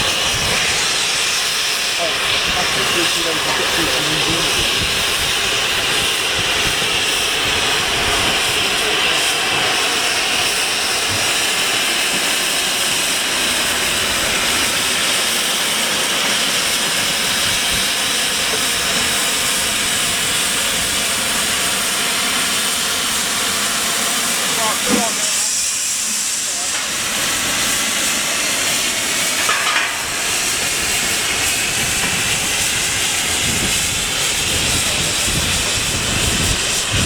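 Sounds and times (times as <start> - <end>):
steam locomotive hissing: 0.0 - 37.0.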